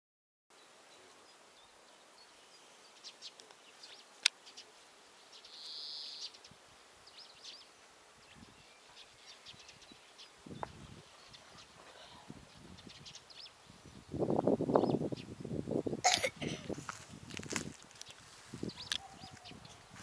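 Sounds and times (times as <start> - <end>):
outdoor background noise: 0.5 - 20.0
small birds chirping: 0.5 - 20.0.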